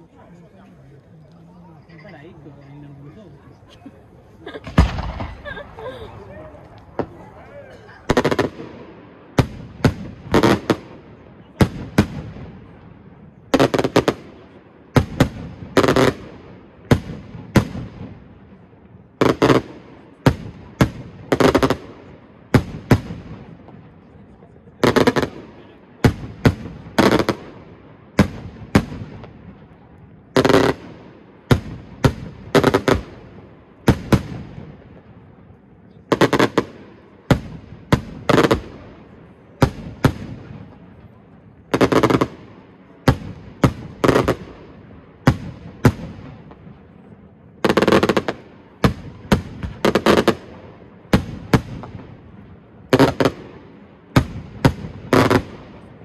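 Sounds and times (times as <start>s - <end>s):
fireworks bangs echoing: 4.4s - 24.2s, 24.8s - 56.0s.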